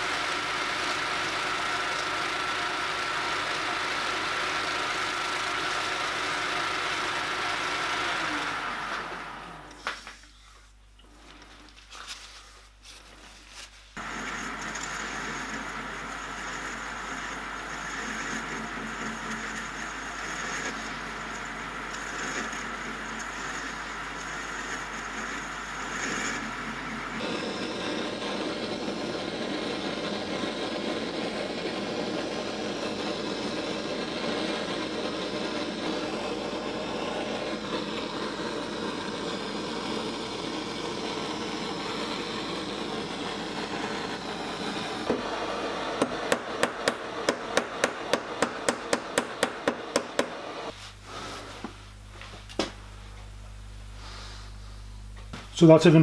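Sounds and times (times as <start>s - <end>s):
metal lathe running: 0.0s - 9.6s, 14.0s - 50.8s.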